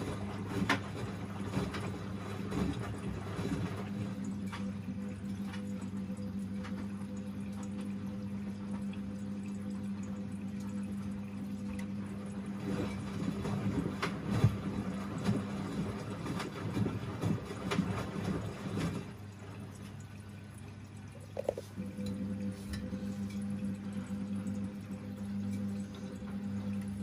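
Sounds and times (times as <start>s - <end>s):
washing machine motor hum: 0.0s - 27.0s
water sloshing in drum: 0.0s - 27.0s.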